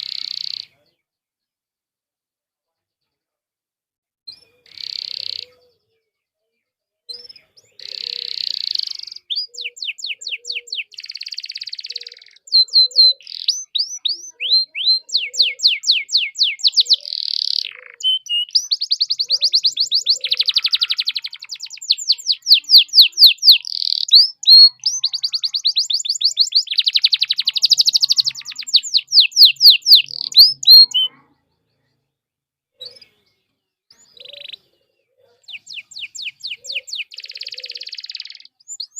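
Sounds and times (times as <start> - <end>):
canary singing: 0.0 - 0.8, 4.3 - 6.0, 7.1 - 32.0, 32.8 - 38.9.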